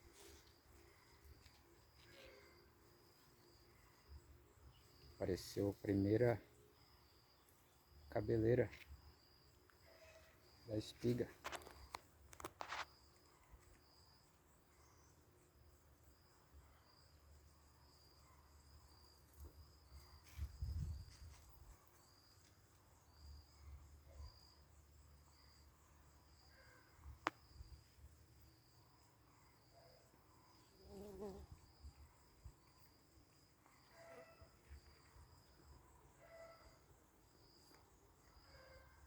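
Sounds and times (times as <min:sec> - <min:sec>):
faint insect chirping: 0:00.0 - 0:39.0.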